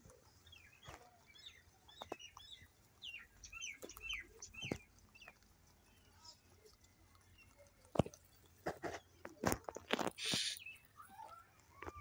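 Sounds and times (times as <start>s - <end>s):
rabbits chewing dried peel: 0.0s - 12.0s
small birds chirping: 0.0s - 12.0s.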